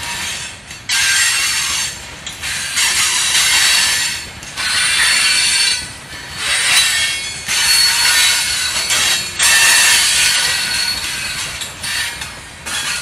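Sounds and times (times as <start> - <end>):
freight cars rolling: 0.0 - 13.0
steel wheels squealing on rails: 0.0 - 13.0.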